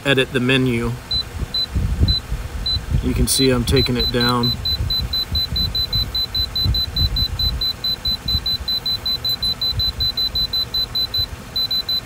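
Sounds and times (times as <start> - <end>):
rapid high short beeps: 1.1 - 2.9, 3.5 - 12.0.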